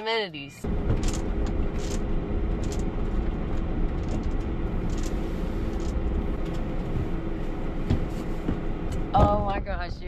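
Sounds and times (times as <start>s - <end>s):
van engine rumbling: 0.0s - 10.0s.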